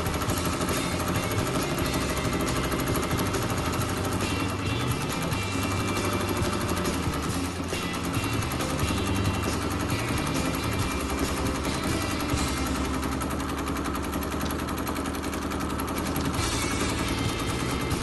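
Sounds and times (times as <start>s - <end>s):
quilting machine needle chattering: 0.0s - 18.0s.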